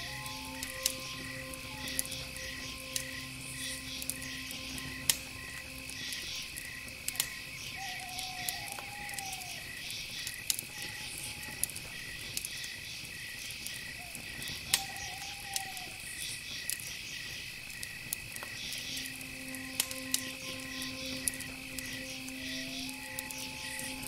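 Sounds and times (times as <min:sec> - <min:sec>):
insect chirping trill: 0:00.0 - 0:24.0.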